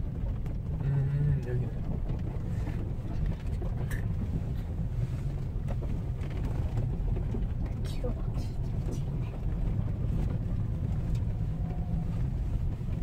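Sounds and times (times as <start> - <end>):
car engine and tyre rumble: 0.0 - 13.0
faint clicks and knocks: 0.0 - 13.0.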